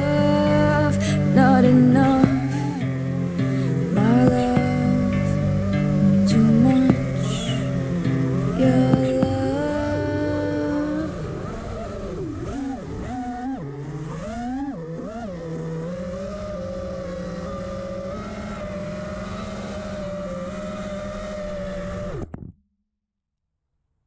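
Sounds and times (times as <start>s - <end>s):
quadcopter motors whining: 0.0s - 22.3s.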